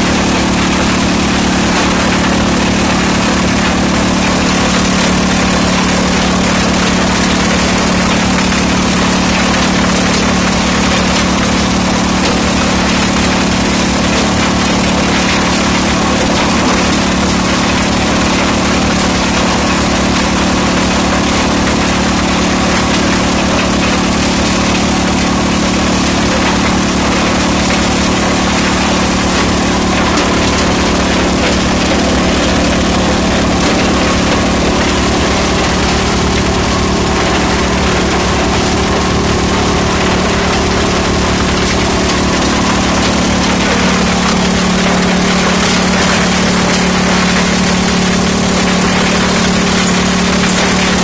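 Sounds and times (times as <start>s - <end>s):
vibrating feeder with stone rushing: 0.0s - 51.0s.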